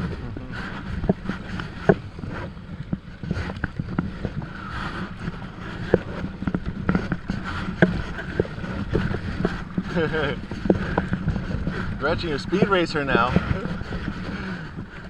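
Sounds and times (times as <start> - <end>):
paddle splashing in water: 0.0 - 15.0
steady low rumble: 0.0 - 15.0
water slapping and dripping: 0.0 - 15.0.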